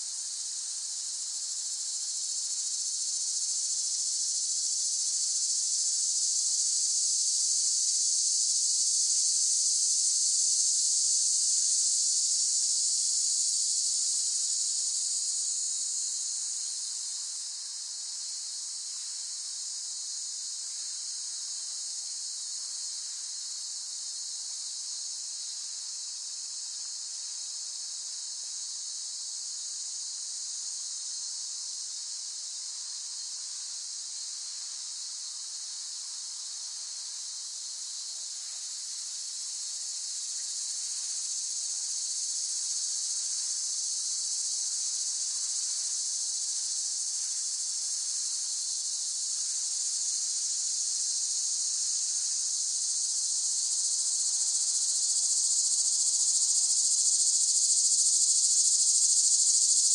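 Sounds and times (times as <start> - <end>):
cicadas buzzing: 1.3 - 23.5, 31.2 - 32.0, 32.6 - 59.9.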